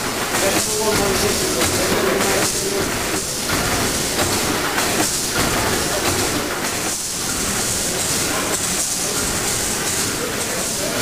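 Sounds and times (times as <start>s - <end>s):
steam engine hissing: 0.0s - 11.0s.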